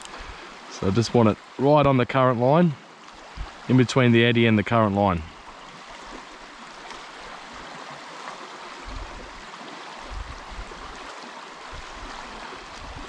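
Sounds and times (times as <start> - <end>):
stream rippling over shallows: 0.0 - 13.0.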